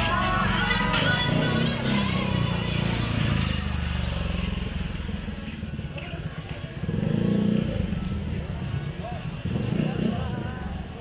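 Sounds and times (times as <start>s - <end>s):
passers-by voices: 0.0s - 11.0s.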